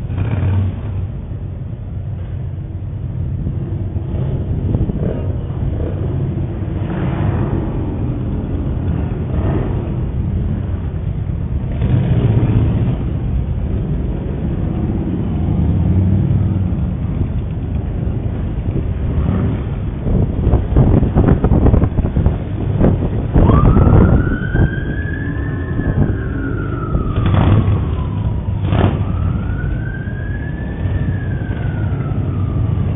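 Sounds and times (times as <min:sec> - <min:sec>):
motorcycle engines rumbling: 0:00.0 - 0:32.9.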